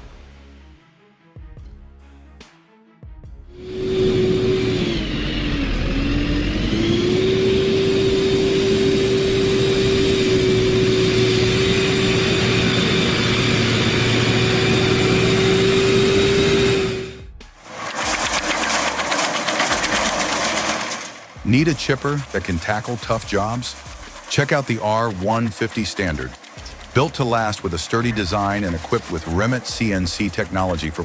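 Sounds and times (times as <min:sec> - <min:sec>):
chainsaw engine revving: 0:03.7 - 0:31.0.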